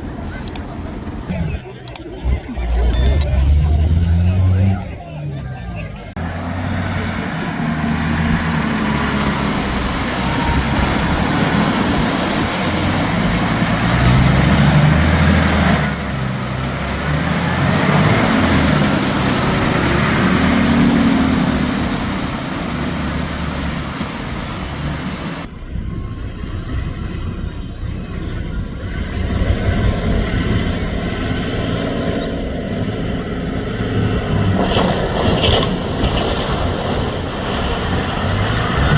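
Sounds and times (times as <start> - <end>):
heavy diesel engines revving: 0.0 - 38.9.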